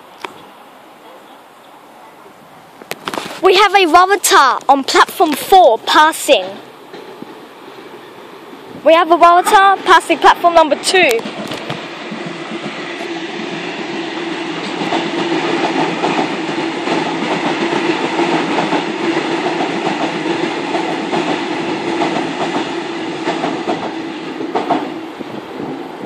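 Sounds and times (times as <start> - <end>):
train wheels rumbling on rail: 2.8 - 26.0.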